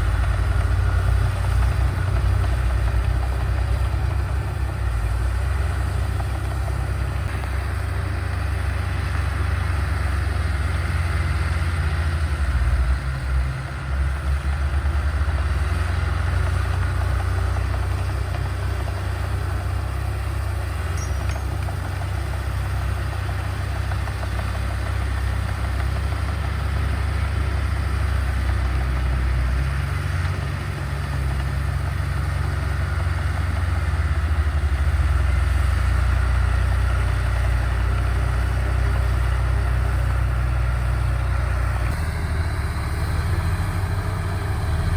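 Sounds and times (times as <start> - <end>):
heavy machinery diesel engine rumble: 0.0 - 44.9.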